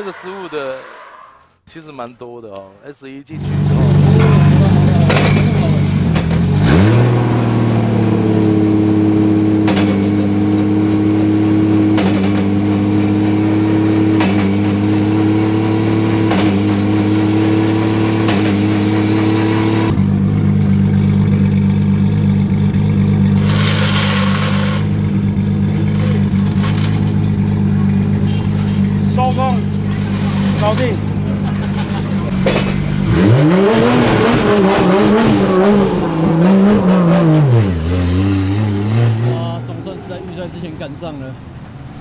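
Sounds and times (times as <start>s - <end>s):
car engine revving: 3.4s - 42.0s.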